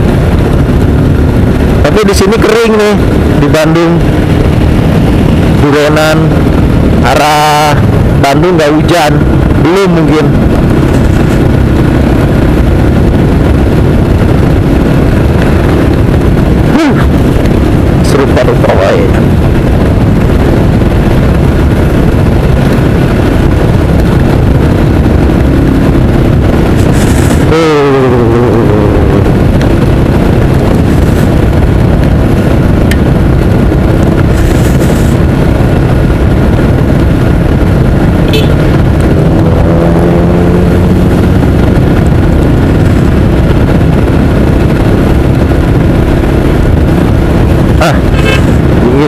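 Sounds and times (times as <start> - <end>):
motorcycle engine: 0.0 - 49.0
wind noise on microphone: 0.0 - 49.0.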